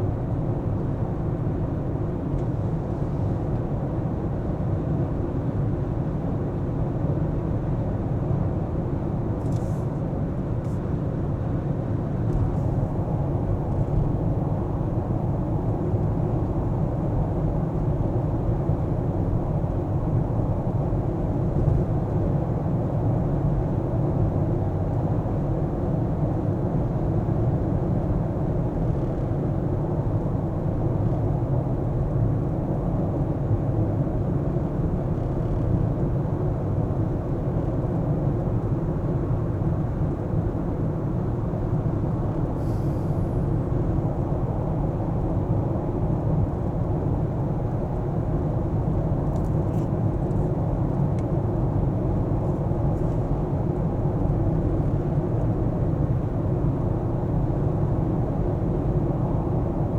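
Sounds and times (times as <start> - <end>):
car road and engine rumble: 0.1 - 59.9.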